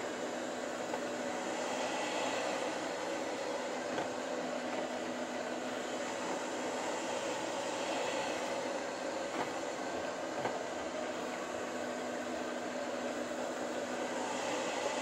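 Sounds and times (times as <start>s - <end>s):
robot vacuum humming: 0.0s - 15.0s.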